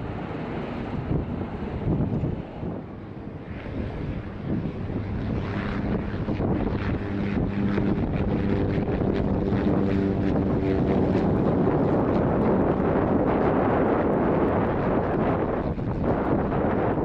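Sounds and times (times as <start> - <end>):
propeller plane drone: 0.0 - 17.0
wind buffeting microphone: 0.0 - 17.0.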